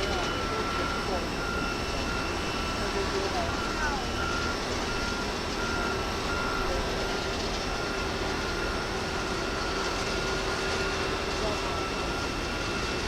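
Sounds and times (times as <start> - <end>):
high warning beep: 0.0 - 12.6
vehicle and jet noise: 0.0 - 13.0.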